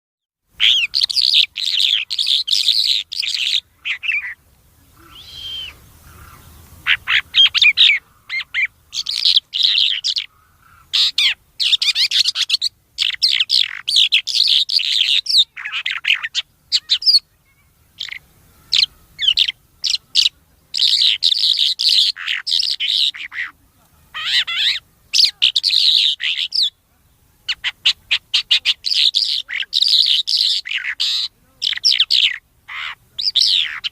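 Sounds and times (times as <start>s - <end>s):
songbird chattering: 0.6s - 33.9s.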